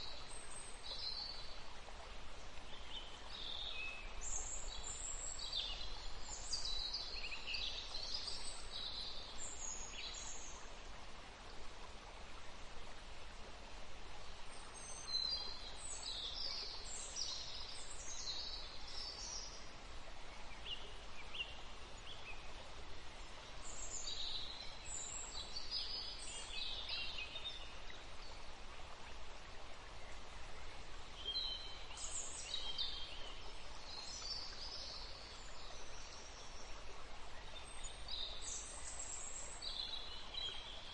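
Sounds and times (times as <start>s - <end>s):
steady background hiss: 0.0s - 40.9s.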